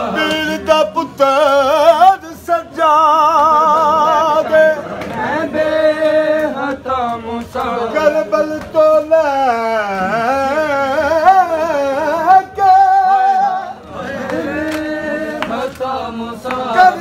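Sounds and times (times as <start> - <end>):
man singing a lament: 0.0 - 17.0.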